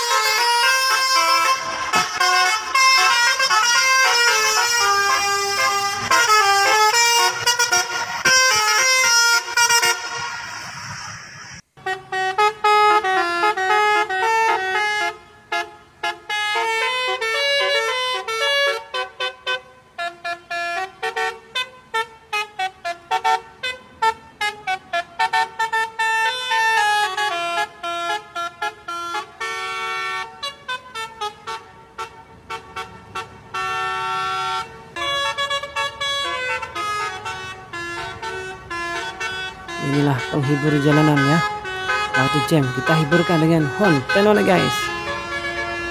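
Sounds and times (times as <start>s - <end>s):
lorry air horn tune: 0.0s - 11.1s, 11.8s - 45.9s.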